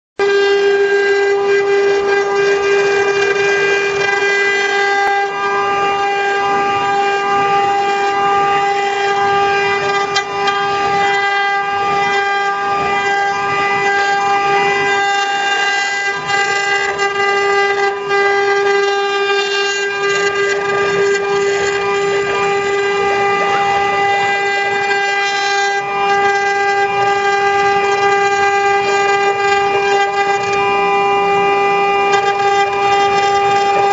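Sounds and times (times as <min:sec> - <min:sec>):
electric spindle whining: 0:00.2 - 0:33.9.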